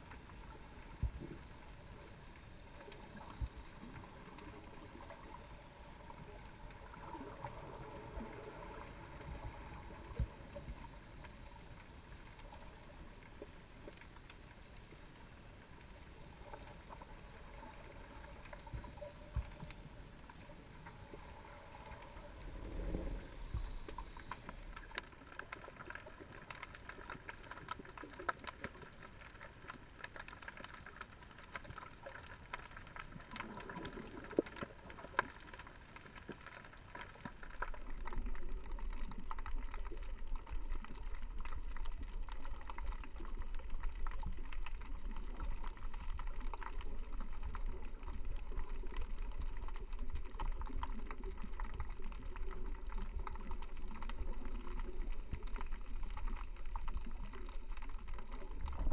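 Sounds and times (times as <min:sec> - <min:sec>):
low underwater rumble: 0:00.0 - 0:58.9
muffled underwater hiss: 0:00.0 - 0:58.9.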